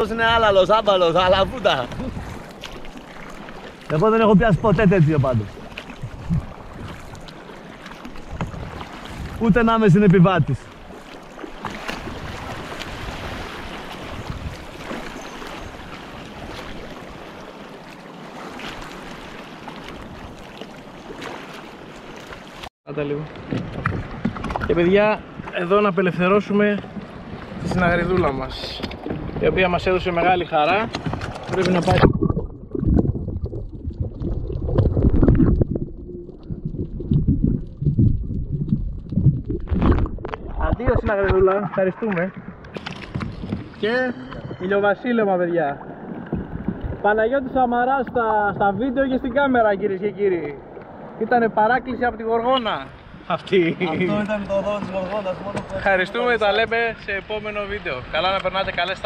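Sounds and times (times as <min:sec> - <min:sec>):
muffled underwater sloshing: 0:00.0 - 0:22.7, 0:23.3 - 0:59.0
steady wash of water: 0:00.0 - 0:59.0
water slapping against boat hull: 0:00.4 - 0:22.7, 0:23.3 - 0:25.9, 0:26.6 - 0:44.6, 0:45.8 - 0:49.2, 0:53.9 - 0:56.5.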